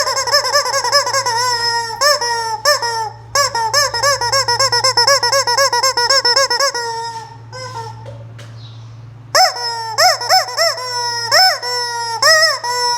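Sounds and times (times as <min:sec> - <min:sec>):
toy chicken squeaking: 0:00.0 - 0:08.0, 0:09.4 - 0:12.9.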